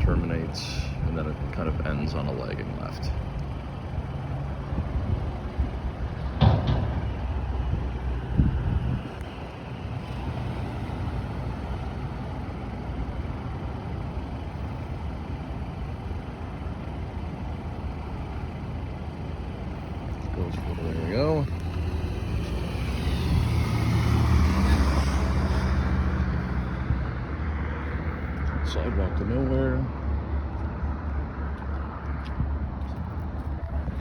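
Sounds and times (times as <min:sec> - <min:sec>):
heavy vehicle engine rumbling: 0:00.0 - 0:34.0
road traffic: 0:00.0 - 0:34.0.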